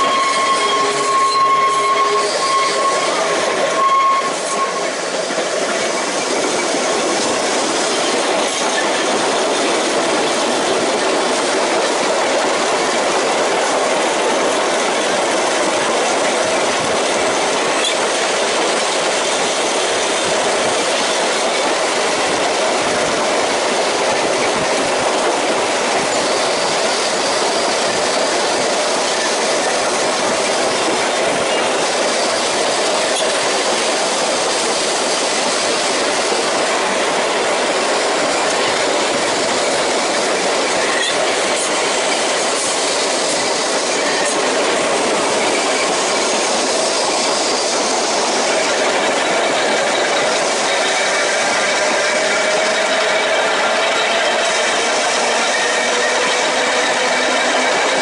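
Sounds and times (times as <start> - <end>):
high wheel squeal: 0.0 - 37.0, 37.8 - 58.0
tram wheels rattling on rails: 0.0 - 58.0.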